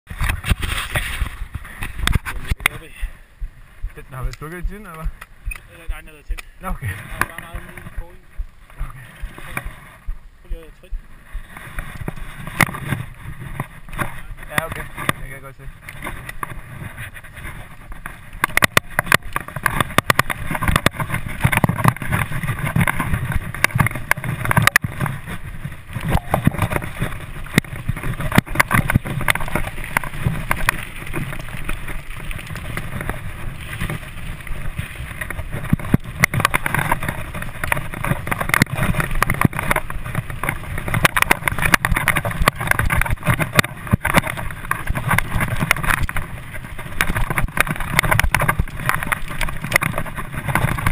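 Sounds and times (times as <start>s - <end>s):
bike tyres rumbling on dirt: 0.0s - 50.9s
bike rattling over bumps: 0.1s - 50.9s
wind rushing on microphone: 0.1s - 50.9s.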